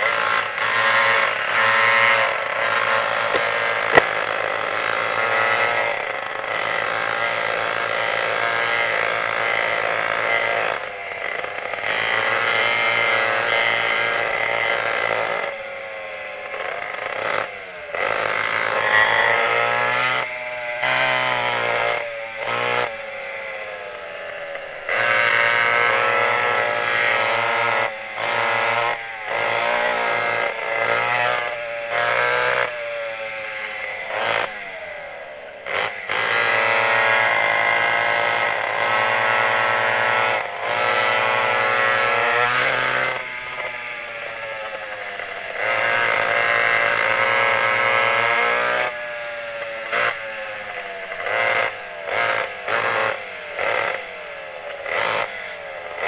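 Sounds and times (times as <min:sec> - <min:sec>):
kart engines revving: 0:00.0 - 0:56.0.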